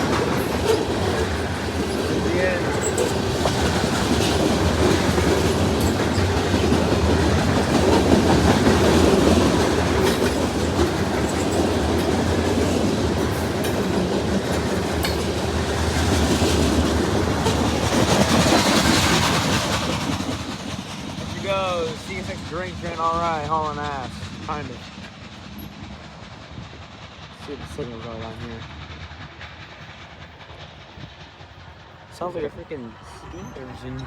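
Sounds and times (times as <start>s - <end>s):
freight train rumbling past: 0.0s - 34.0s
wheels clacking over rail joints: 0.0s - 34.0s.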